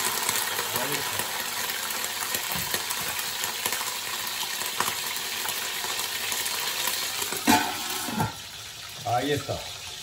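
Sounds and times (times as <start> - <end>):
meat sizzling in oil: 0.0 - 10.0
oil crackling spatters: 0.0 - 10.0.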